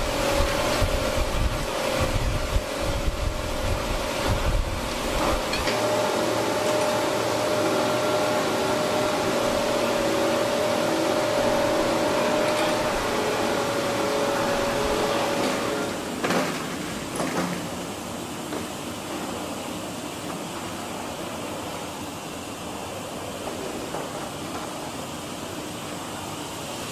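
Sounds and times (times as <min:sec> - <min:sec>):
factory machinery hum: 0:00.0 - 0:26.9.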